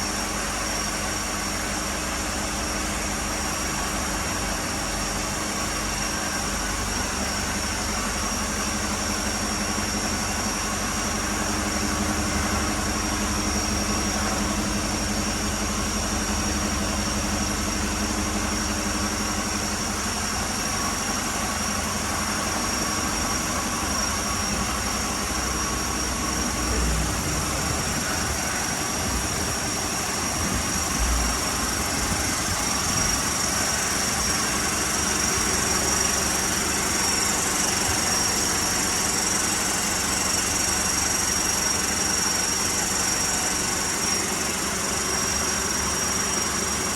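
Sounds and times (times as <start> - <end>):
constant high-pitched tone: 0.0 - 46.9
vehicle engine idling: 0.0 - 46.9.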